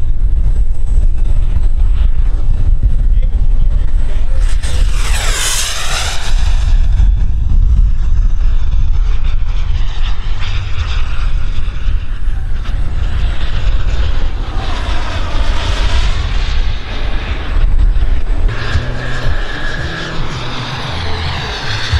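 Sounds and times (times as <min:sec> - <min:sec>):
low rumble: 0:00.0 - 0:21.9
model jet turbine whine: 0:00.0 - 0:21.9.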